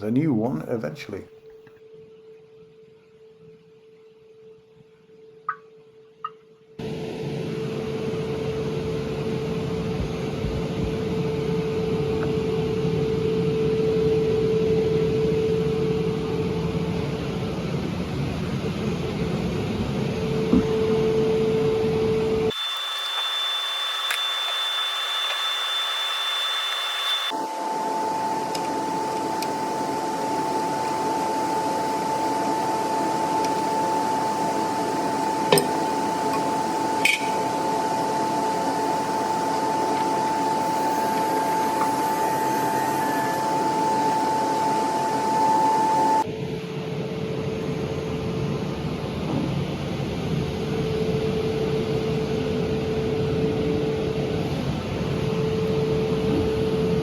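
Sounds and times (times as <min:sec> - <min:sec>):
machine whirring and humming: 0:06.7 - 0:57.0.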